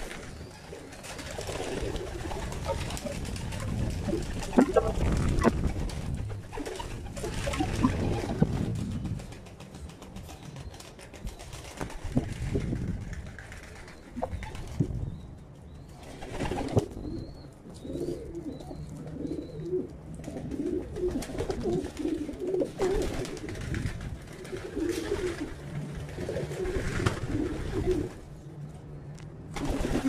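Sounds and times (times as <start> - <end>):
pigeons cooing: 0.0 - 15.2, 15.8 - 28.4.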